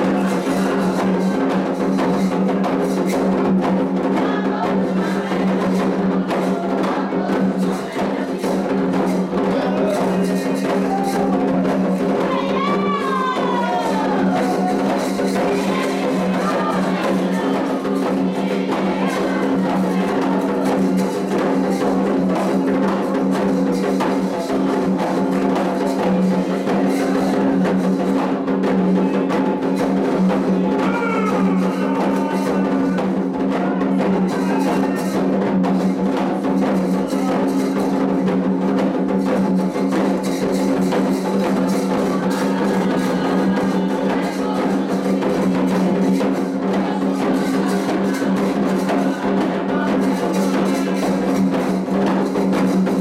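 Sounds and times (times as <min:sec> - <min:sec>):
hand drums playing rhythm: 0:00.0 - 0:53.0
voices singing: 0:00.0 - 0:53.0
wood block percussion: 0:00.0 - 0:53.0.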